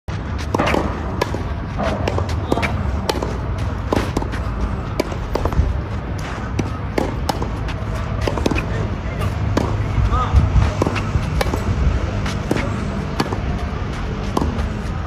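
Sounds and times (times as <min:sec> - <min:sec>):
balls bouncing on clay court: 0:00.1 - 0:15.0
steady low rumble: 0:00.1 - 0:15.0
tennis balls struck by rackets: 0:00.1 - 0:15.0.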